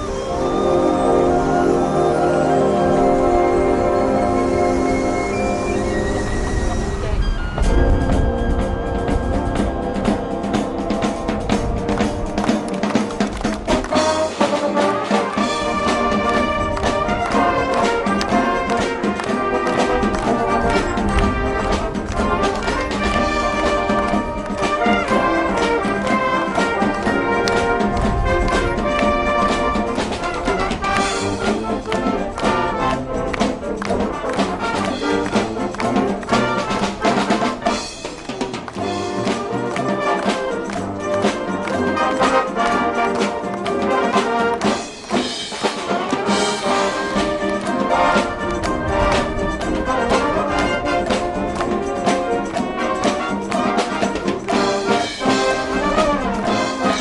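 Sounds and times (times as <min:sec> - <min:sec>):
steady drumbeat: 0:00.0 - 0:57.0
trumpets and trombones: 0:00.0 - 0:57.0.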